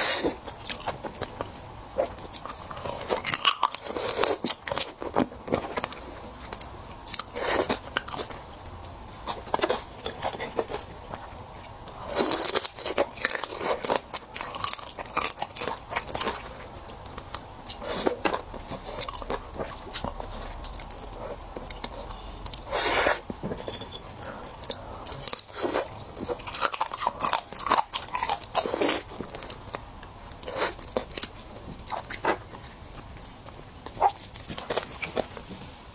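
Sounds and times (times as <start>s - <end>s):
crunchy chewing: 0.0s - 35.8s.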